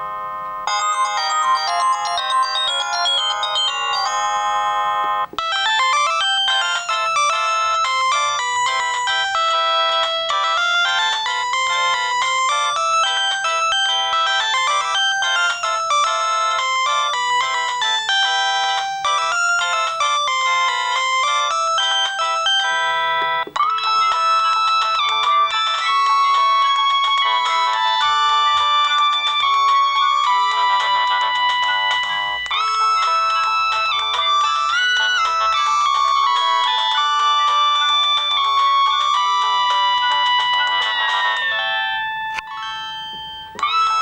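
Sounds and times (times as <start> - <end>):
polyphonic phone ringtones: 0.0 - 44.0.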